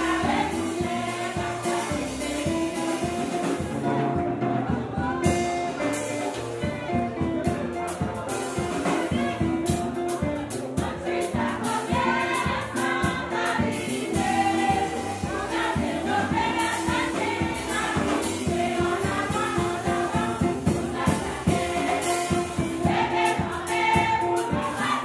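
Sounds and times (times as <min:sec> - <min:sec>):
choir singing: 0:00.0 - 0:25.0
steady drum beat: 0:00.0 - 0:25.0.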